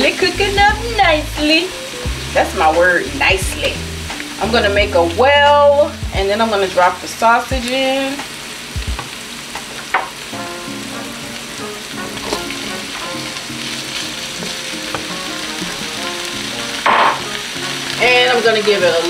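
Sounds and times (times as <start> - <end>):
soft background music: 0.0 - 19.0
vegetables sizzling in hot oil: 0.0 - 19.0.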